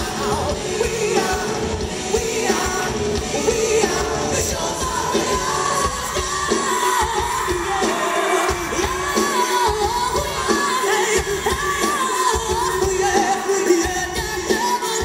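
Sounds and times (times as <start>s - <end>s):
drum beat: 0.0s - 15.0s
live band playing: 0.0s - 15.0s.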